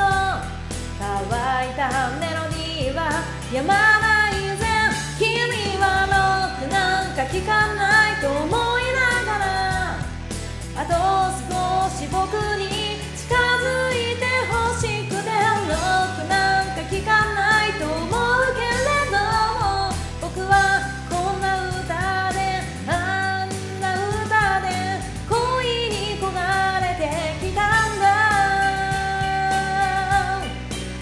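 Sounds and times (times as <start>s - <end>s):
pop-rock instrumental backing track: 0.0s - 31.0s.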